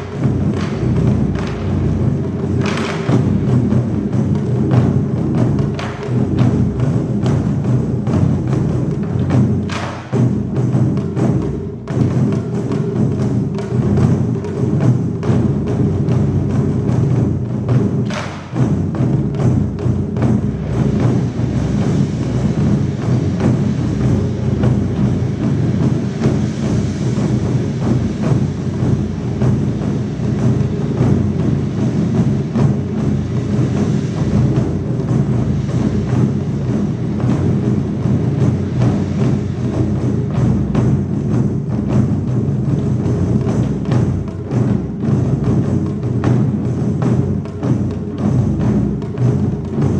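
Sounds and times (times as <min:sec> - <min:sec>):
taiko drums playing: 0:00.0 - 0:49.9.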